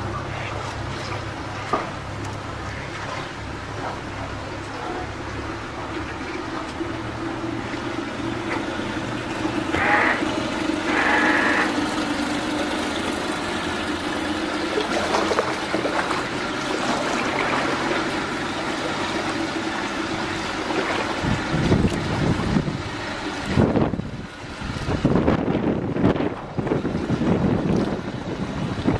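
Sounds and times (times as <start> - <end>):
outboard motor idling: 0.0 - 28.9.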